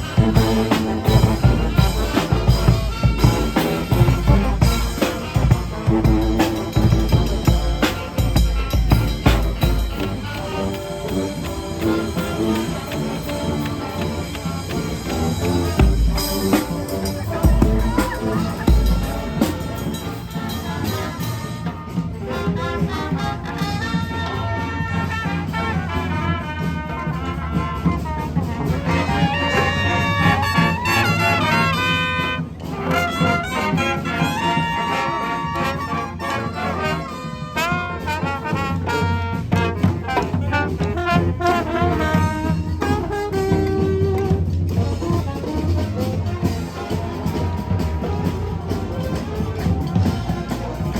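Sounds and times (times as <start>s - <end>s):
brass band playing: 0.0s - 50.9s.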